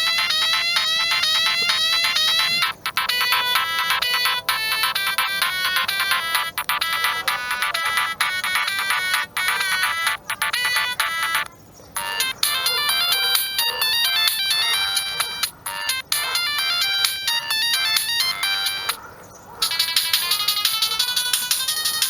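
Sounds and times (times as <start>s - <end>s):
mobile phone ringtone melody: 0.0s - 19.0s, 19.6s - 22.0s.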